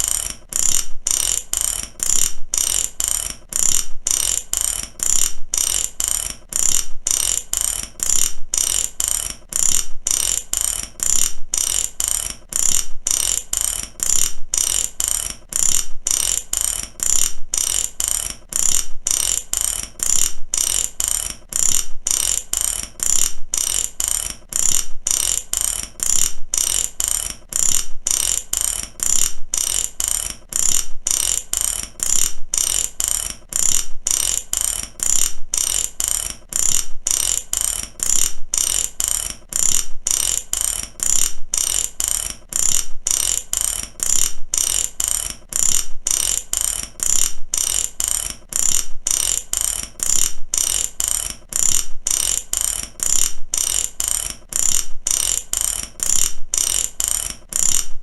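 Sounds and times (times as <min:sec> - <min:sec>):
ratchet wrench clicking: 0:00.0 - 0:58.0.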